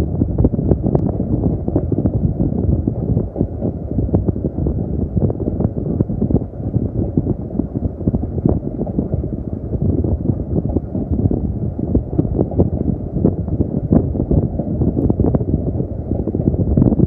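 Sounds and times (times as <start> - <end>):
wind buffeting microphone: 0.0 - 17.0
railway carriage running rumble: 1.0 - 16.9.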